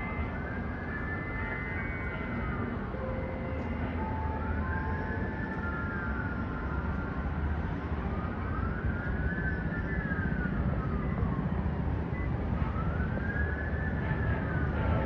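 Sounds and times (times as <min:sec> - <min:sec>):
emergency siren wailing: 0:00.0 - 0:15.0
low city rumble: 0:00.0 - 0:15.0.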